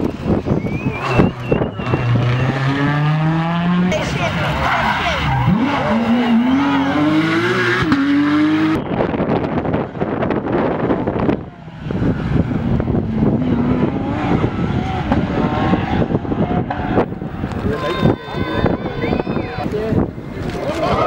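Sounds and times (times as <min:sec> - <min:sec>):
rally car engine accelerating: 0:00.0 - 0:17.8.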